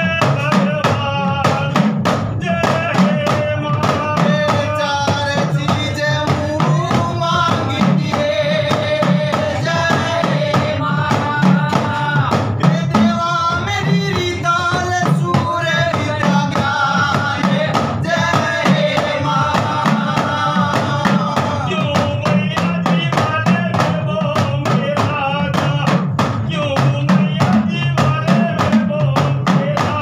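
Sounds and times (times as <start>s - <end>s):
devotional folk singing: 0.0s - 30.0s
small drum beaten with stick: 0.0s - 30.0s.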